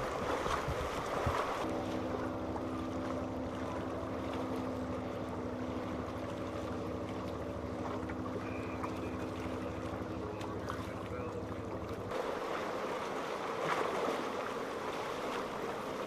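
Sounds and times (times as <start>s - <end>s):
boat engine droning: 0.0s - 16.0s
water noise: 0.0s - 16.0s
wind: 0.0s - 16.0s.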